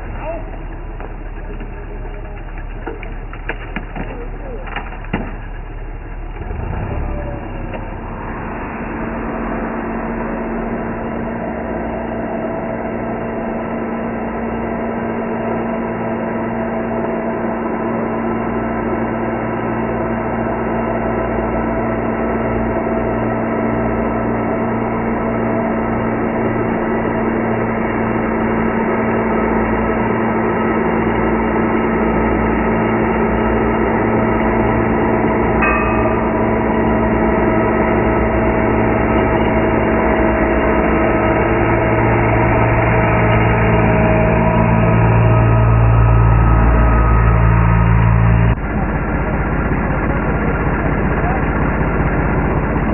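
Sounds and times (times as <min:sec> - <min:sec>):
machine drone: 0:00.0 - 0:52.9.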